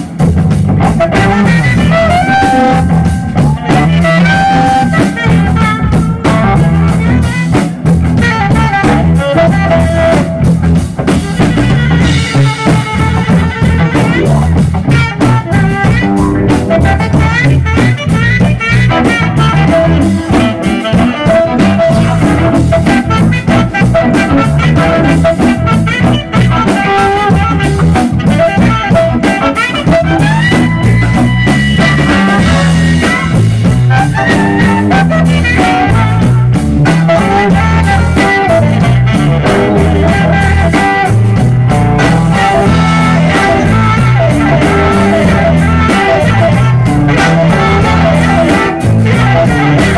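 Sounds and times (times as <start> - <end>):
bass line: 0.0 - 49.9
drum groove: 0.0 - 49.9
electric guitar sustained notes: 0.0 - 49.9.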